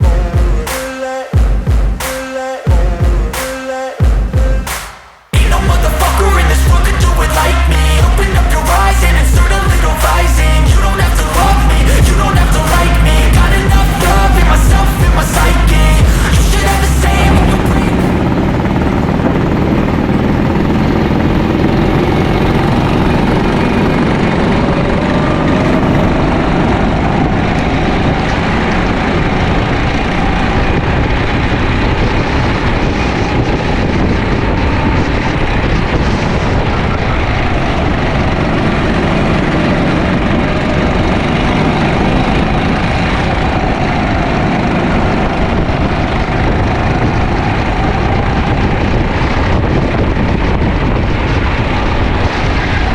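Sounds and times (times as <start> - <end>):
go-kart engine running hard: 5.4 - 52.9.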